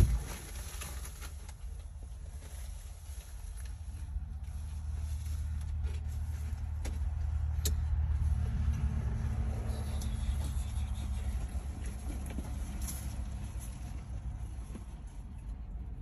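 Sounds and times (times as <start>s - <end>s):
engine rumbling: 0.0s - 16.0s.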